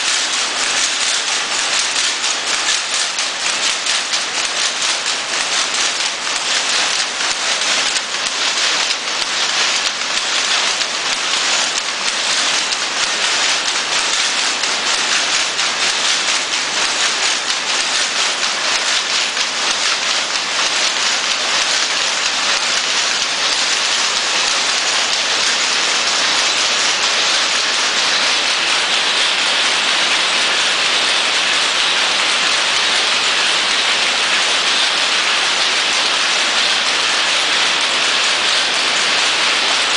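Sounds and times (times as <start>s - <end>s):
loom clattering: 0.0s - 39.9s.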